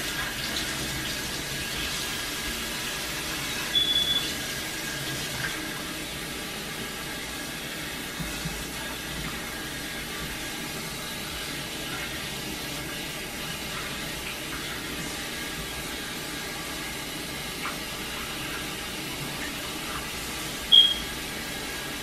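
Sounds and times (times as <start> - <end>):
faucet water running into sink: 0.0 - 22.0.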